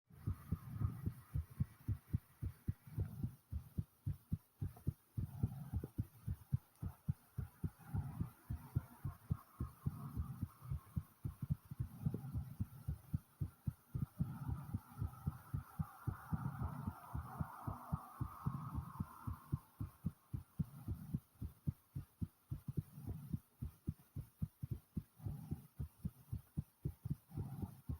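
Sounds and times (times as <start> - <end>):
fast pounding heartbeat: 0.1 - 27.9.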